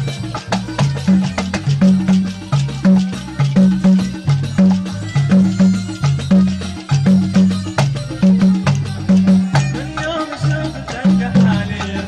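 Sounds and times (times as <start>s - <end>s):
driving bass line: 0.0s - 12.0s
hand percussion: 0.0s - 12.0s.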